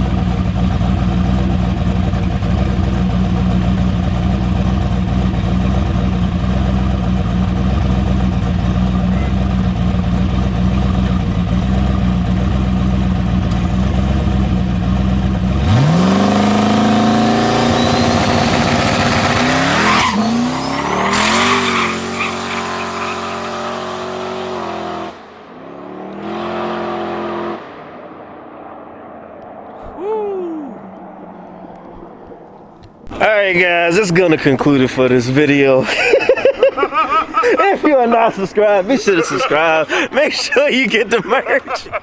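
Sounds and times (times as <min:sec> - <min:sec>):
car engine idling and accelerating: 0:00.0 - 0:42.0.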